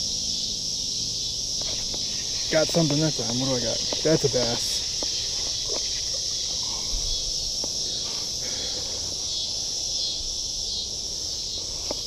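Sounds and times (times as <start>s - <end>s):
insects chirping chorus: 0.0s - 12.0s.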